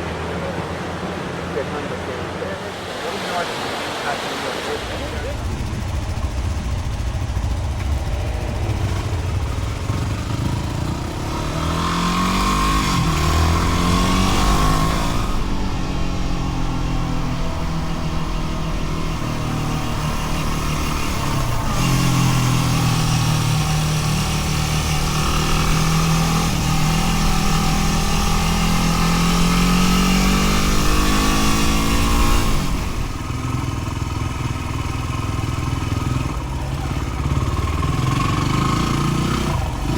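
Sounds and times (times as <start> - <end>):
dirt bike engine revving: 5.0 - 39.9.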